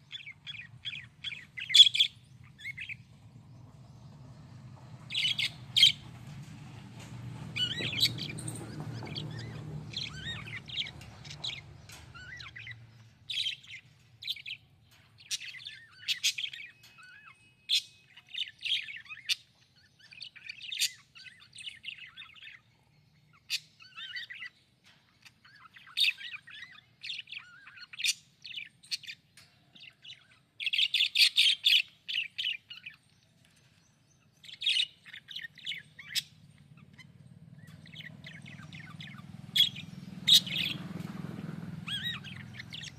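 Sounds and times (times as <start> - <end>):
budgerigars chirping: 0.0 - 3.1, 5.1 - 6.2, 7.5 - 14.6, 15.2 - 22.6, 23.3 - 24.6, 25.2 - 33.1, 34.2 - 42.9.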